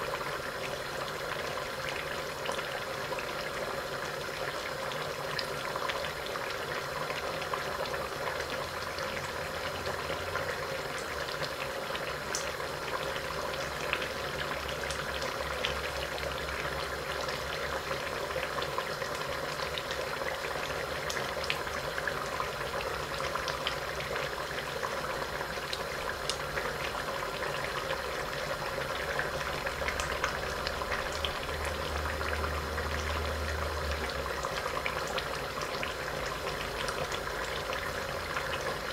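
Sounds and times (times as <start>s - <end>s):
stew simmering with small pops: 0.1s - 38.9s.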